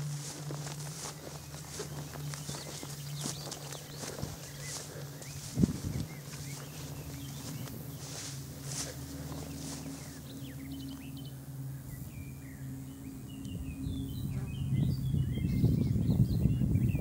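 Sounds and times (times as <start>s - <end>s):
wind buffeting microphone: 0.0s - 10.8s, 13.3s - 17.0s
small birds chirping: 0.0s - 17.0s
steady low hum: 0.0s - 17.0s.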